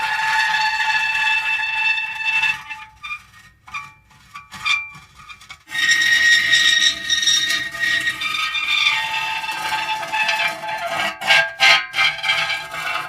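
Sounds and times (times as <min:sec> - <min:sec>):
metal creaking and squealing: 0:00.0 - 0:13.0.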